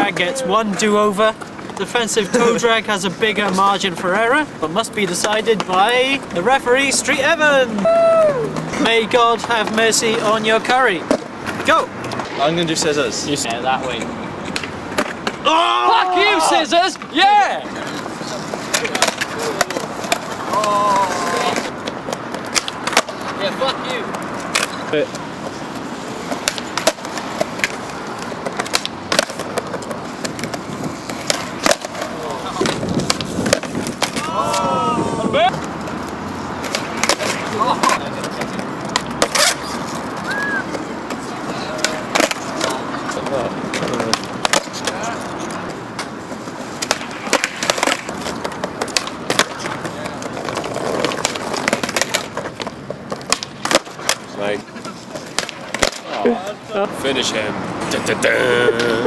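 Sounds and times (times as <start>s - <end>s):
skateboard wheels rolling on paving: 0.0s - 59.0s
skateboard clacks: 4.9s - 7.4s, 8.4s - 15.5s, 16.2s - 34.8s, 35.5s - 56.6s.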